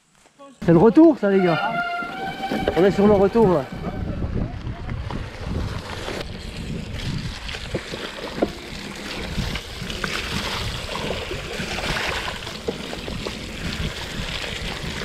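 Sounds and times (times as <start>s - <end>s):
wind buffeting microphone: 1.8s - 15.0s.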